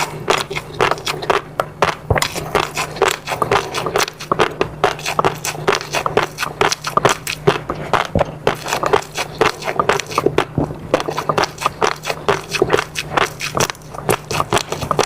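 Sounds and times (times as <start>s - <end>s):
wet chewing and mouth smacking: 0.0s - 15.0s.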